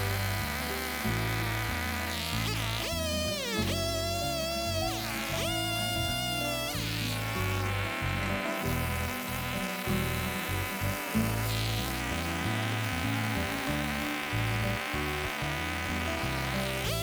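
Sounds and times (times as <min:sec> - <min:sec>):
background music with bass line: 0:00.0 - 0:17.0
chainsaw buzzing: 0:00.0 - 0:17.0.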